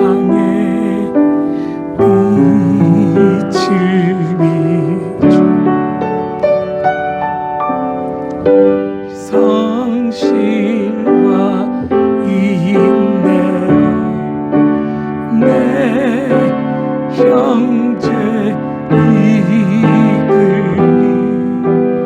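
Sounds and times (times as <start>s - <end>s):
person singing a hymn: 0.0s - 6.9s, 8.1s - 22.0s
slow piano accompaniment: 0.0s - 22.0s.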